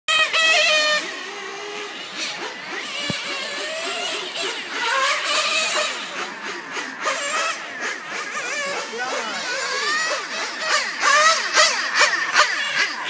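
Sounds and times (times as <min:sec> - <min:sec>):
rc car engine revving: 0:00.1 - 0:13.0.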